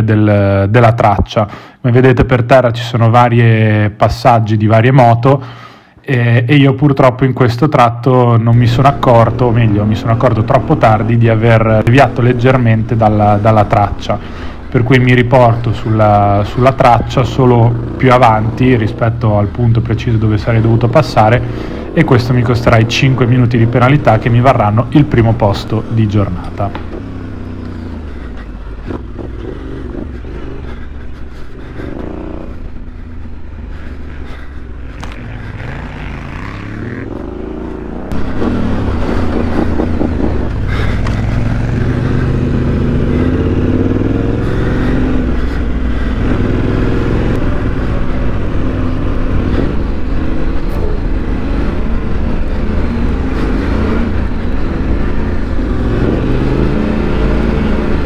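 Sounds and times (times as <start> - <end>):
motorcycle engine revving: 8.2 - 58.0.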